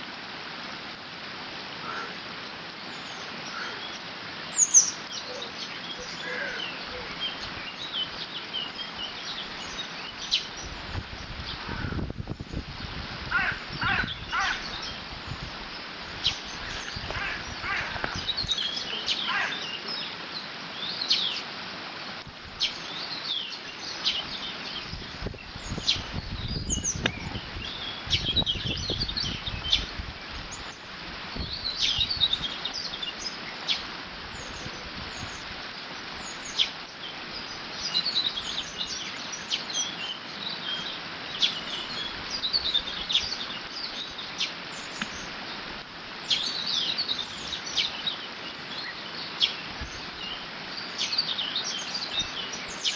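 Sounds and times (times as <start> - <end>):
water rushing over dam: 0.0 - 52.9
small birds chirping: 2.7 - 21.5, 22.4 - 52.9
wind rumbling on microphone: 5.9 - 19.3, 21.9 - 46.5, 48.5 - 52.9.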